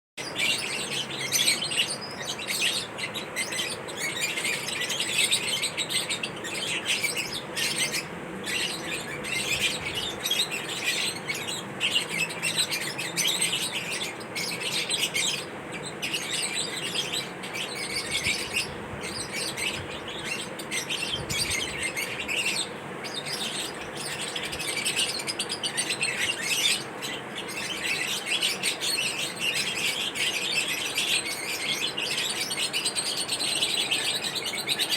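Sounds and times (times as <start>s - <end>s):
lovebird chattering: 0.2s - 34.9s.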